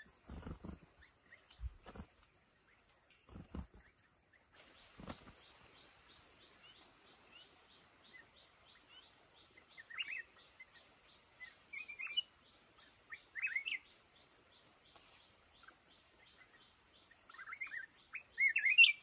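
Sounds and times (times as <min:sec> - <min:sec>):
bird chirping phrases: 0:00.0 - 0:19.0.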